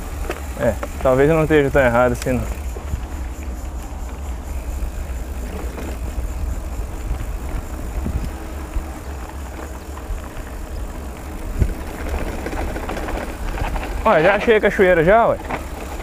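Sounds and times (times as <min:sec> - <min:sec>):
bike tyre and frame rattle: 0:00.0 - 0:16.0
wind rumble on microphone: 0:00.0 - 0:16.0.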